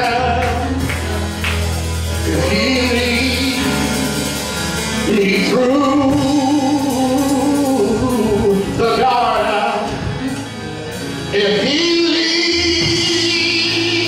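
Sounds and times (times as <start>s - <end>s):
person singing gospel: 0.0s - 10.2s, 11.1s - 14.0s
instrumental backing with bass: 0.0s - 14.0s.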